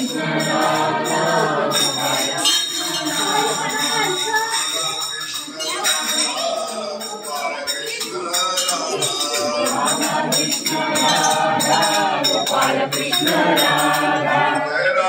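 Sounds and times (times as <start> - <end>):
jingling hand percussion: 0.0 - 15.0
voices singing a song: 0.0 - 15.0.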